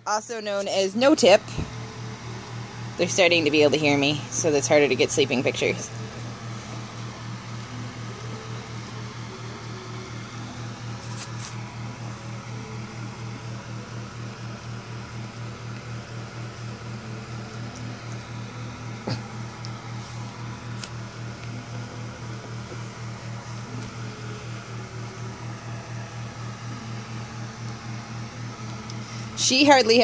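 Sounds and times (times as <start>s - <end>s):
electric motor hum: 0.0s - 30.0s.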